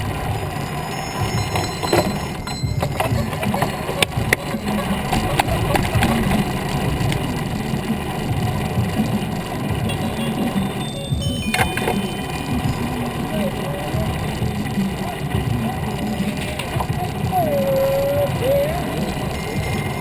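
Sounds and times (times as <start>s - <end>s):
bicycle clicks and rattles: 0.0s - 20.0s
wind and tyre rumble: 0.0s - 20.0s.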